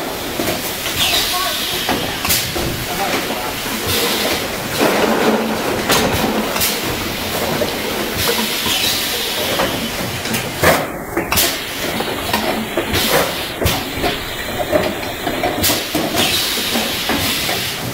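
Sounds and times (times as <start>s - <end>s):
machine hissing: 0.0s - 17.9s
air-release bursts and clacks: 0.3s - 4.5s, 5.9s - 17.9s.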